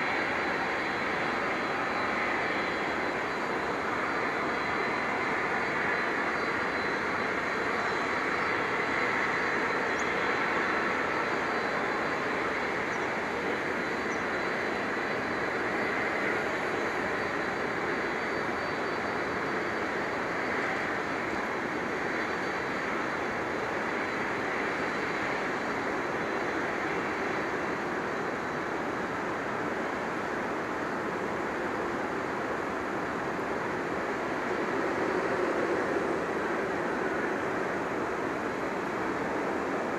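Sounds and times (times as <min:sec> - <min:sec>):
faint high whine: 0:00.0 - 0:39.9
jet engines rushing: 0:00.0 - 0:39.9.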